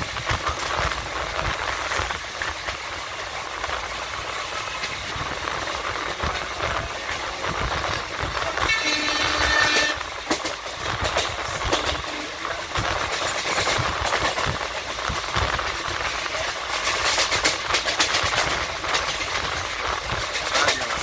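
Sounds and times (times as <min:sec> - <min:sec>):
train running rumble: 0:00.0 - 0:21.0
wheels clattering over track: 0:00.0 - 0:21.0.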